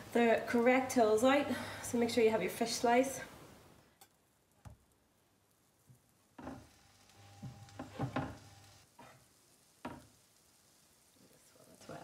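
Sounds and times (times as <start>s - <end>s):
patties sizzling in a frying pan: 0.0s - 12.0s.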